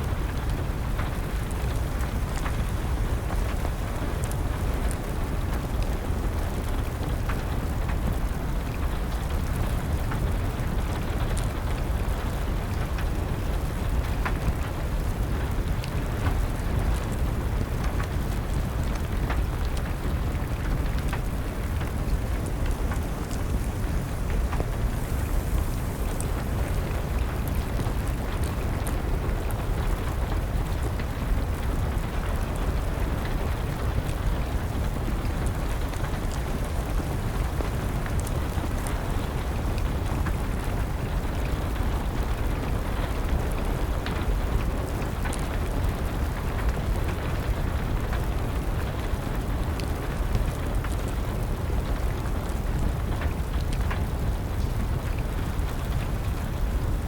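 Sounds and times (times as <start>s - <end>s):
steady rain: 0.0s - 57.0s
wood fire crackles: 0.0s - 57.0s.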